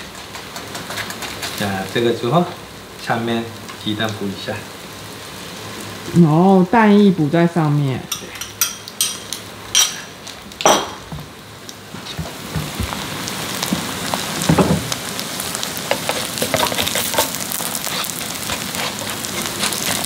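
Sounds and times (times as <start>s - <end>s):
pancake sizzling in oil: 0.0s - 6.9s, 7.7s - 20.0s.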